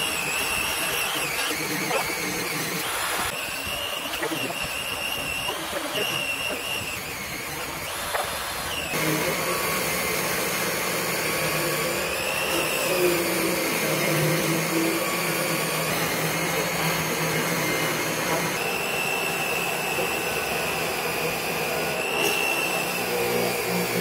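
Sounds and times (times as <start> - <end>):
table saw ripping a board: 0.0 - 24.0.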